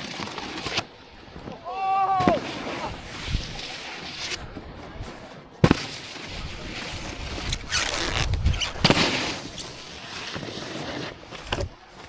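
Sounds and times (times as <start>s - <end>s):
snowboard scraping on snow: 0.0s - 1.0s, 2.2s - 12.0s.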